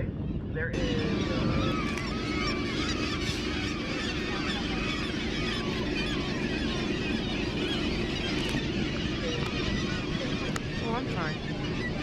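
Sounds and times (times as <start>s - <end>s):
low rumble: 0.0s - 12.0s
seabirds squealing calls: 0.1s - 12.0s.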